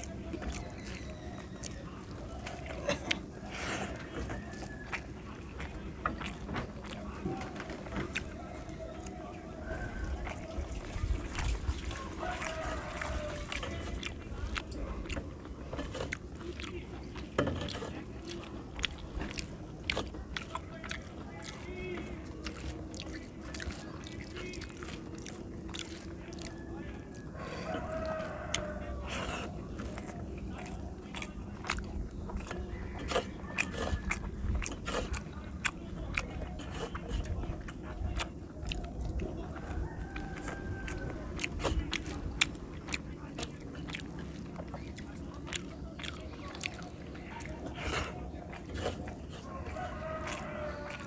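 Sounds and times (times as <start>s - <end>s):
chewing and wet mouth clicks: 0.0s - 51.0s.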